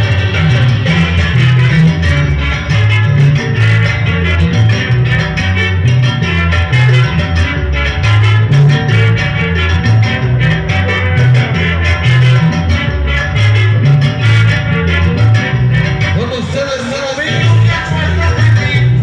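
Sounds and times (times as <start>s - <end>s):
latin dance music: 0.0s - 19.0s.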